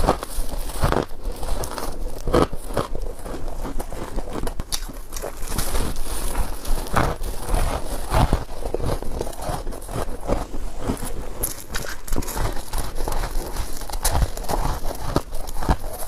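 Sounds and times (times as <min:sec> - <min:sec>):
biting crunchy ice: 0:00.0 - 0:16.0.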